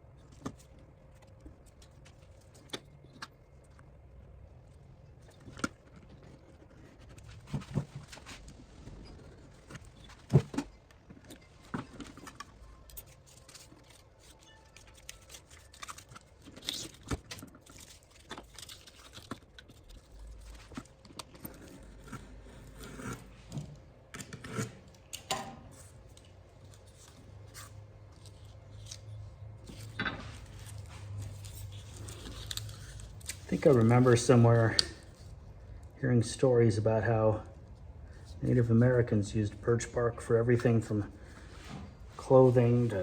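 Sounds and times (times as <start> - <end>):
faint low hum: 0.0 - 43.0.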